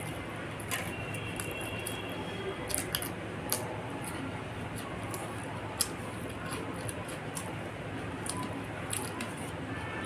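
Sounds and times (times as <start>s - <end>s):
wet chewing and lip-smacking: 0.0s - 9.6s.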